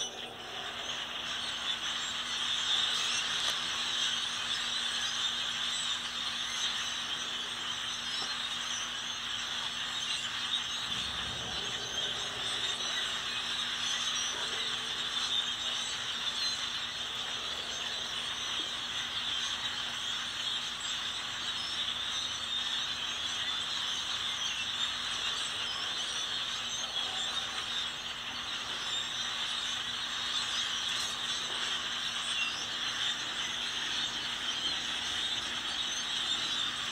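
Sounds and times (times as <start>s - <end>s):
flock of songbirds chattering: 0.0s - 36.9s.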